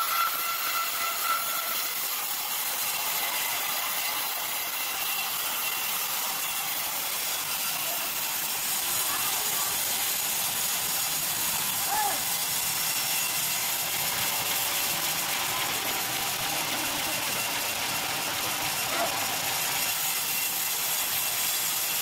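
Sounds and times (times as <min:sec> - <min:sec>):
band sawmill running: 0:00.0 - 0:22.0.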